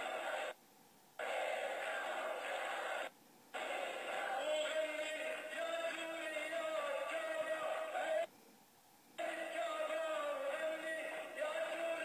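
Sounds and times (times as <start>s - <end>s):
distorted crowd noise: 0.0s - 0.6s, 1.2s - 8.3s, 9.2s - 12.0s.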